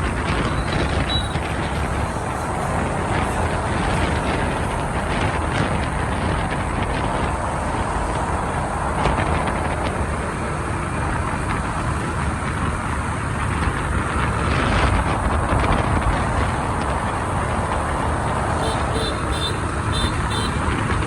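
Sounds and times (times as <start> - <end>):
motorbike engine: 0.0 - 21.0
wind rushing over microphone: 0.0 - 21.0.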